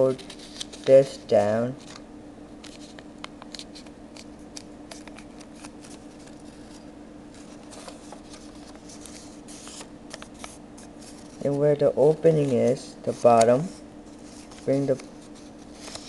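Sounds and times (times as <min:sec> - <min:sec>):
steady low hum: 0:00.0 - 0:16.0
paper crinkling and clicking: 0:00.2 - 0:01.2, 0:01.8 - 0:02.0, 0:02.6 - 0:11.6, 0:12.3 - 0:16.0.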